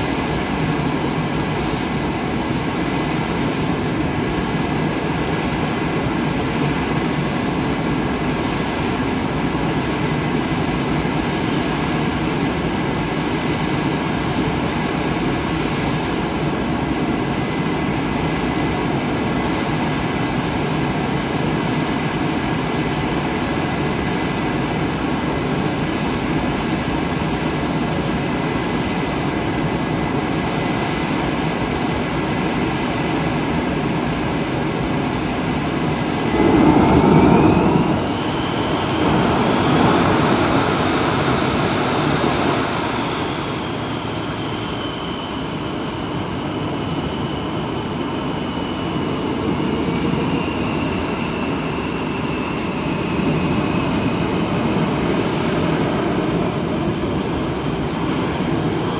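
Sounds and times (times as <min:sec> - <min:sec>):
jet engines idling: 0:00.0 - 0:58.9.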